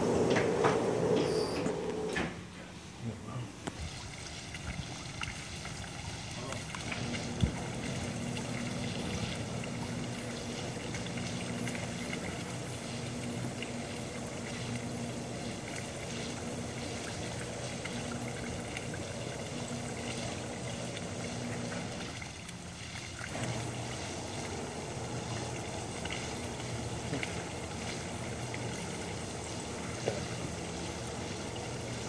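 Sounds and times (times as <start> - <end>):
low electric motor hum: 0.0 - 32.0
water splashing into pool: 3.5 - 32.0.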